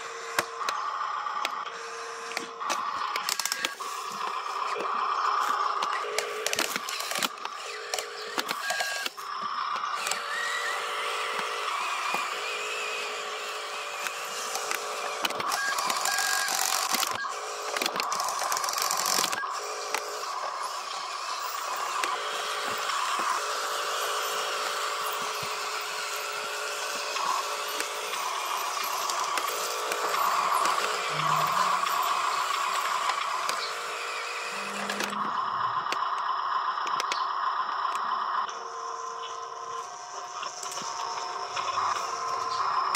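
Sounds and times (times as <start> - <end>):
toy truck motors whirring: 0.0 - 42.9.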